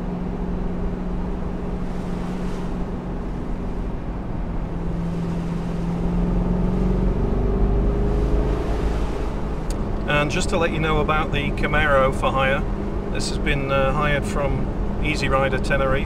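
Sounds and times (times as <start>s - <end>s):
car engine running: 0.0s - 16.0s
road noise: 0.0s - 16.0s.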